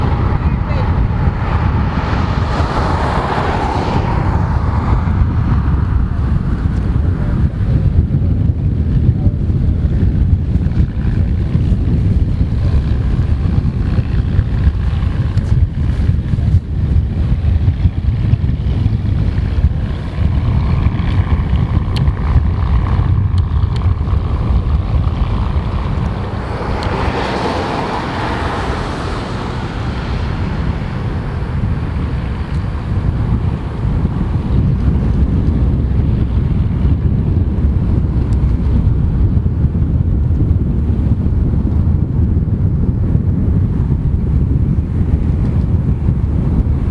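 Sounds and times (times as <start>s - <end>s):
aircraft engines droning: 0.0s - 42.1s
wind buffeting microphone: 0.0s - 46.9s.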